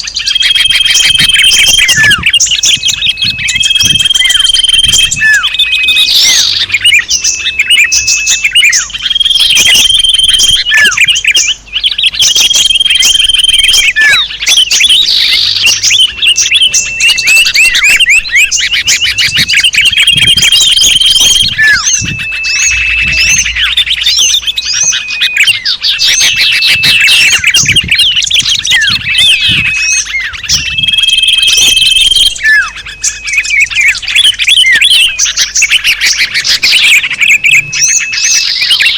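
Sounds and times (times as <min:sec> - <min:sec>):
songbirds chirping and calling: 0:00.0 - 0:38.9.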